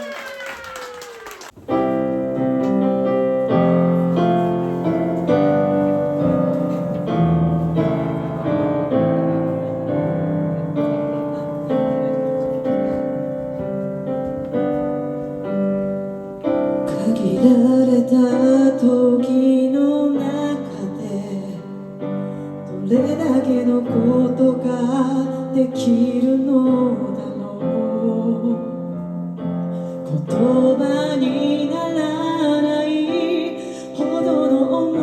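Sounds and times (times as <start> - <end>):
piano ballad chords: 1.5 - 35.0.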